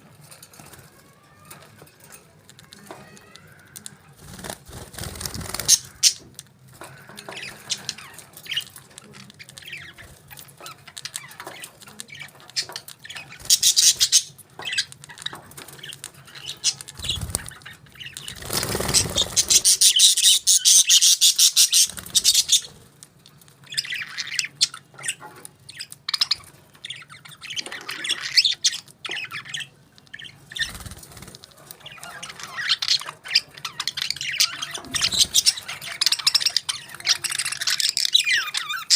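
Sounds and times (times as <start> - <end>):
parakeets chirping and squawking: 0.0 - 38.9.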